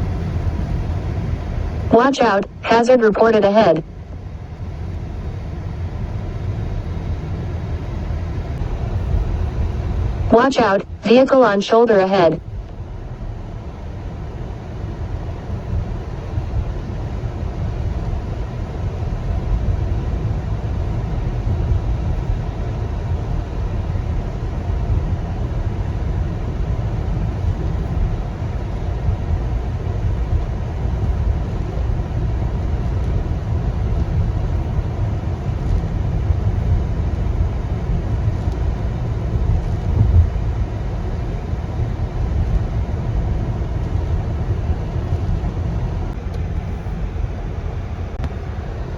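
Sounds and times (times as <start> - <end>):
car road noise at highway speed: 0.0 - 1.9, 3.4 - 11.0, 12.4 - 48.9.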